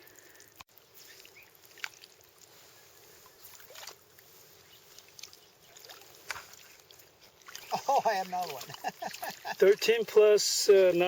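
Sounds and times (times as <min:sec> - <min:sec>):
sharp water splashes: 0:00.0 - 0:11.0
river water sloshing: 0:00.6 - 0:11.0.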